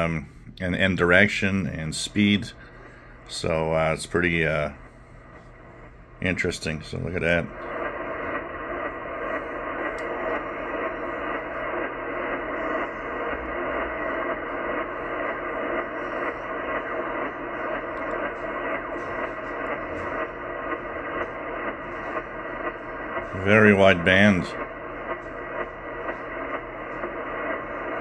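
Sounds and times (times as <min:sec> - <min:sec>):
radio receiver hiss with fast sweeps: 0:01.0 - 0:28.0.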